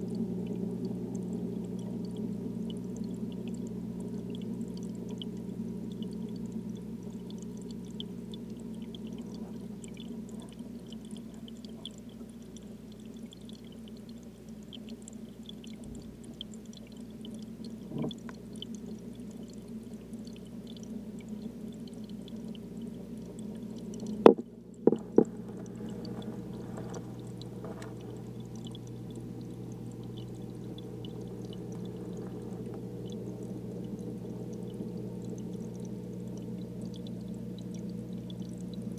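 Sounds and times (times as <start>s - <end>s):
aquarium filter hum: 0.0s - 38.9s.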